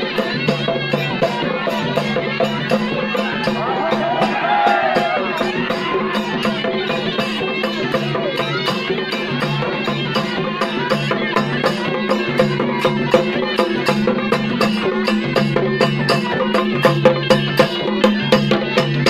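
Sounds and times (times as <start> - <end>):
drums beating quick rhythm: 0.0 - 19.0.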